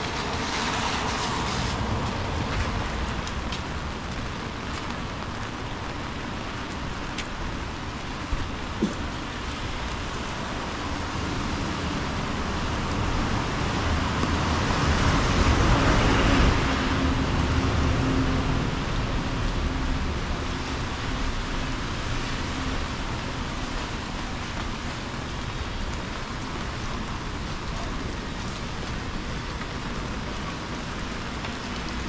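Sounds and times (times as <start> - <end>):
heavy rain on street: 0.0 - 32.0
vehicle driving on wet road: 0.0 - 32.0.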